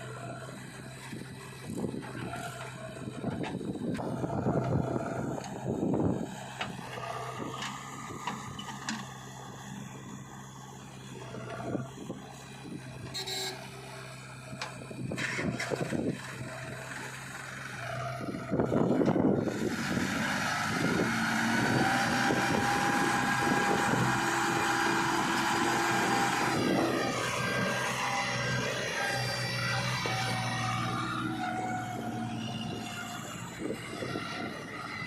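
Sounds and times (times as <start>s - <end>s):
heavy machinery diesel engine: 0.0s - 35.0s.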